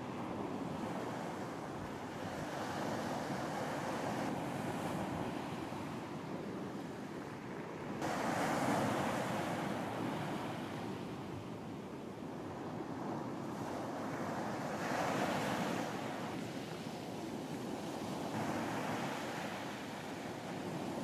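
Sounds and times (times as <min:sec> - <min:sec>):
waves washing on a beach: 0:00.0 - 0:21.0.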